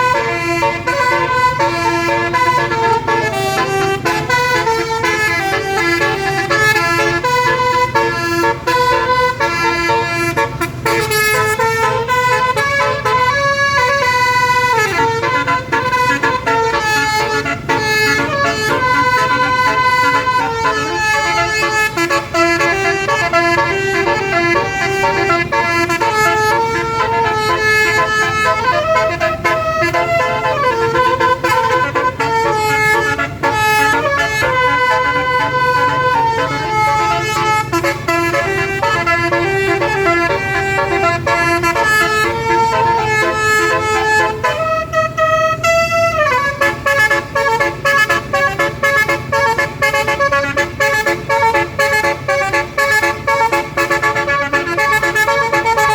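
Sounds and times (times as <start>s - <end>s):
air horn playing a melody: 0.0s - 55.9s
low vehicle rumble: 0.0s - 55.9s.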